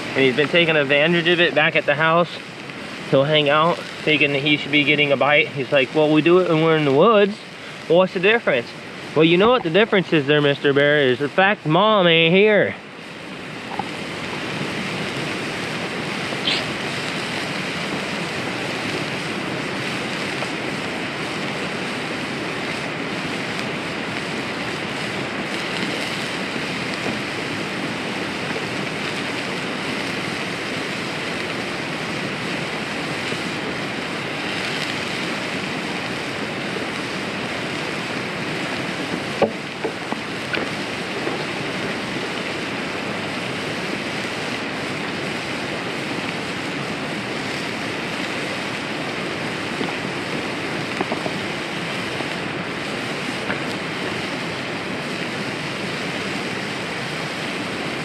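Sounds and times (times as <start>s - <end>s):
burger patty sizzling in oil: 0.0s - 58.0s.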